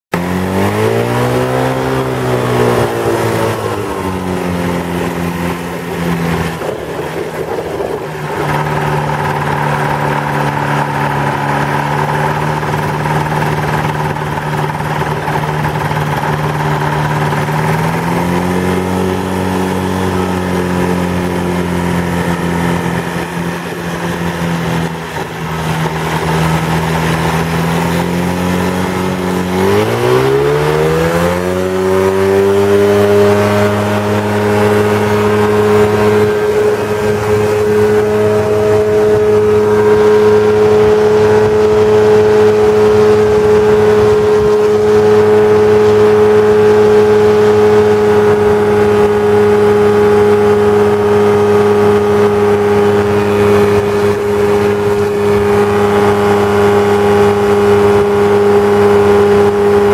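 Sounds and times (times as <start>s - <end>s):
light aircraft engine running: 0.1s - 59.9s.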